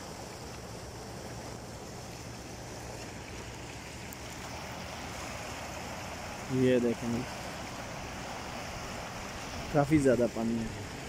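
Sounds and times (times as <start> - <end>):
fast-flowing stream rushing: 0.0 - 11.0.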